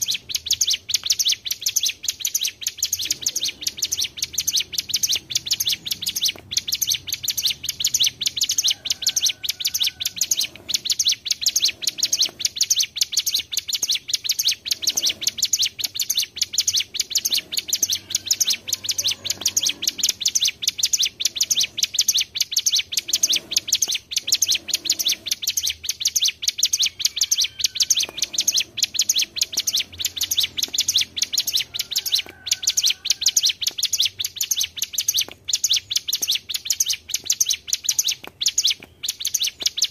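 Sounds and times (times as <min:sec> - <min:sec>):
bird singing rapid trill: 0:00.0 - 0:39.9.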